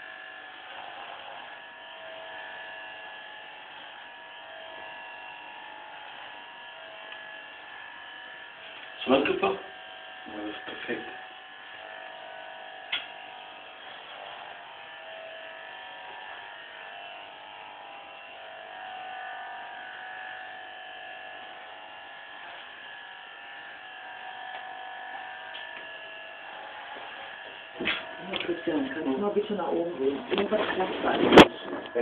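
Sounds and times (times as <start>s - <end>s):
hair clipper buzzing: 0.0s - 32.0s.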